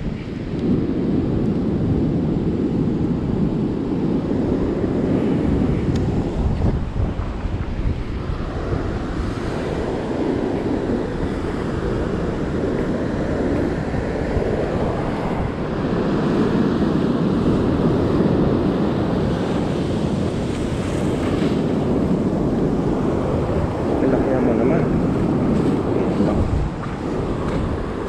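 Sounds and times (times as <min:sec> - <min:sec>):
ocean surf washing: 0:00.0 - 0:28.0
wind buffeting microphone: 0:00.0 - 0:28.0.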